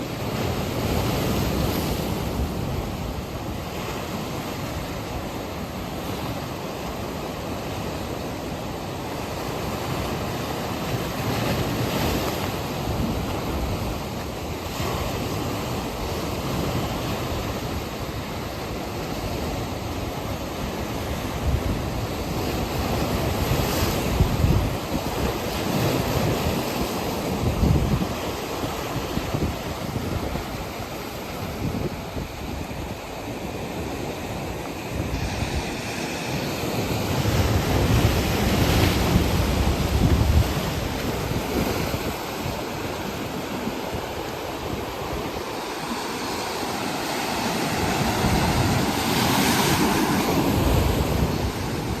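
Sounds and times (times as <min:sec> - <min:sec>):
ocean waves washing ashore: 0:00.0 - 0:52.0
wind buffeting microphone: 0:09.2 - 0:52.0.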